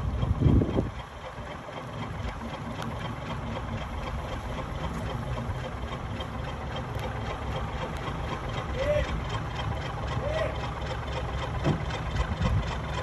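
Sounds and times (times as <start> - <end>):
crane engine rumbling: 0.0 - 13.0.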